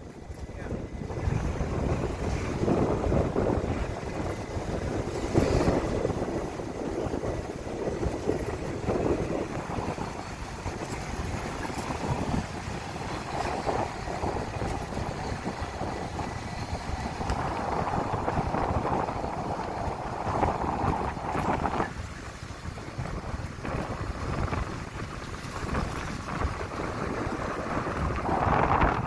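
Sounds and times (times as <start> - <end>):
truck engine and road noise: 0.0 - 29.0
wind rushing past microphone: 0.0 - 29.0.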